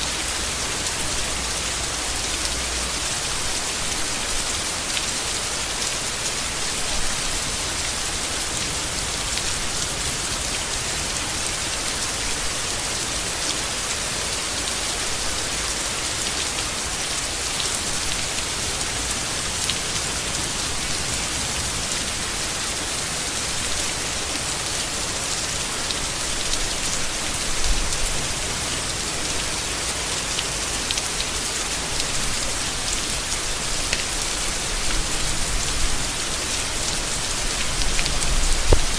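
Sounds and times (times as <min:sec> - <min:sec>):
heavy rain falling on leaves: 0:00.0 - 0:38.9.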